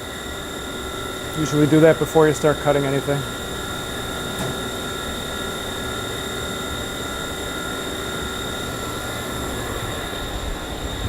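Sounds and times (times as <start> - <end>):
machine hum: 0.0 - 11.0
steady machine whining tones: 0.0 - 11.0.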